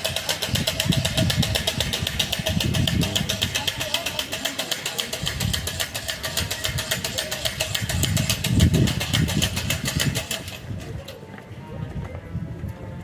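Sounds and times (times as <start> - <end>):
rapid even clattering: 0.0 - 11.0.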